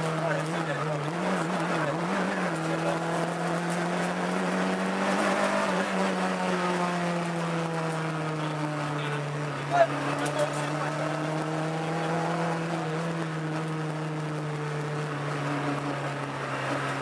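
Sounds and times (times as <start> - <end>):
car engine from inside cabin: 0.0 - 17.0
road and wind noise: 0.0 - 17.0.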